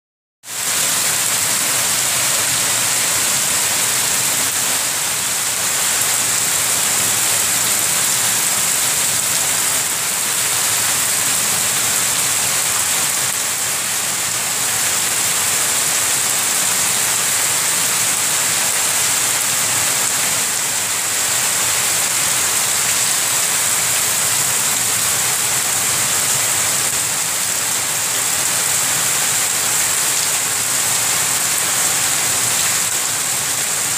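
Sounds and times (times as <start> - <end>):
heavy rain on earth and puddles: 0.4 - 33.9.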